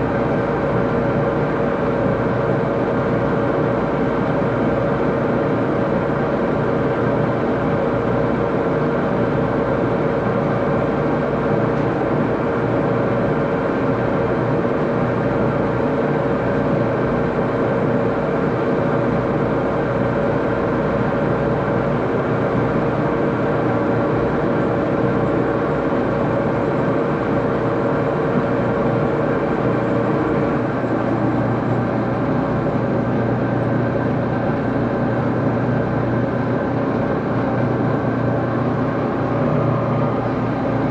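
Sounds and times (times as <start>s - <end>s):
lathe mechanical hum: 0.0s - 40.9s.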